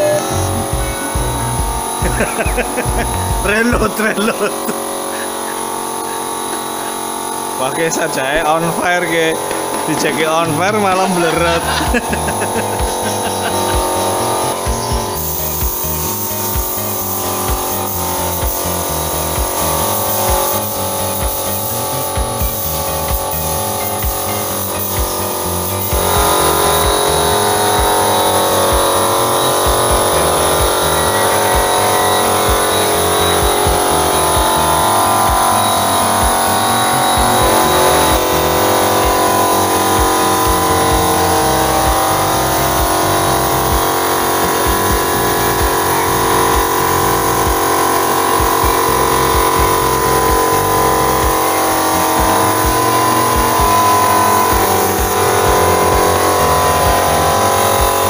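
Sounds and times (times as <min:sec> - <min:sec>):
air compressor motor hum: 0:00.0 - 0:58.0
airbrush spraying hiss: 0:00.0 - 0:58.0.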